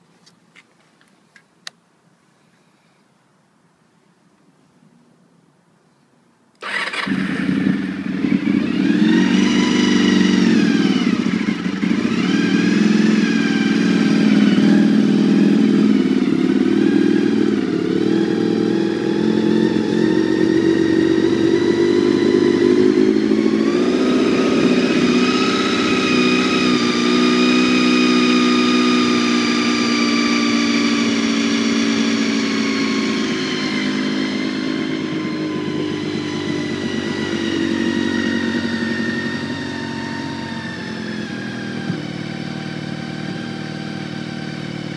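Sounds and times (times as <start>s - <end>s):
motorcycle engine starting and idling: 6.6s - 44.9s.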